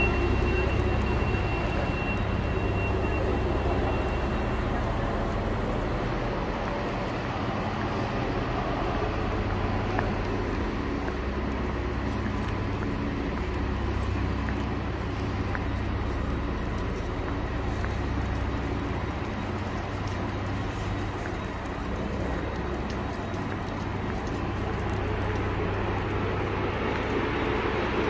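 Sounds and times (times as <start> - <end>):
diesel railcars idling: 0.0 - 28.0
station rumble and hum: 0.0 - 28.0.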